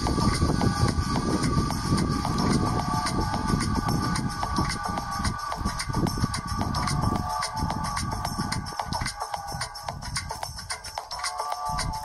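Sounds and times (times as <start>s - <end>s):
background music with light beats: 0.0s - 12.0s.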